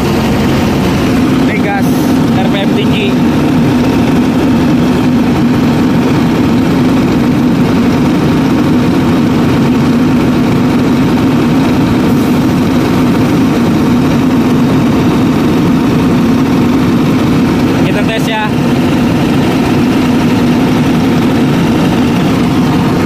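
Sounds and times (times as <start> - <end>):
diesel engine at high rpm: 0.0 - 23.0.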